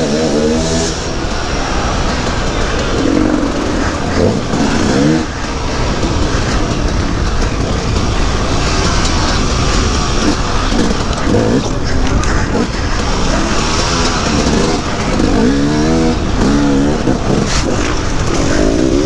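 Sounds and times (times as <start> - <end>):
dirt bike engine revving: 0.0 - 19.0
track noise: 0.0 - 19.0
wind rush: 0.6 - 19.0.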